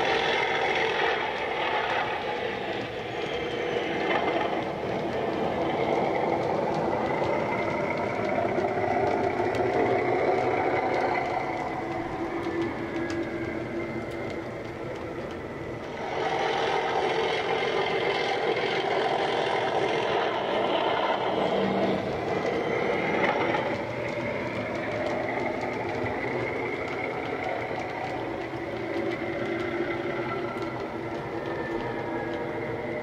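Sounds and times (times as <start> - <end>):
model train running on track: 0.0 - 33.0.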